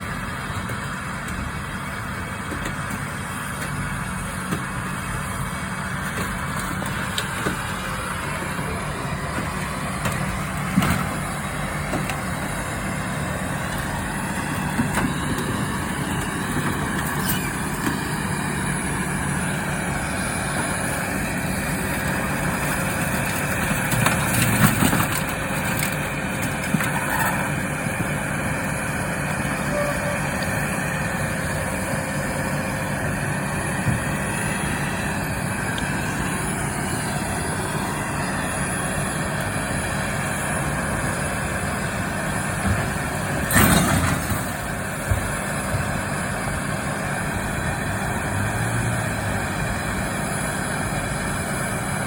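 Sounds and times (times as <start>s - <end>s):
motor vehicle running: 0.0s - 52.0s.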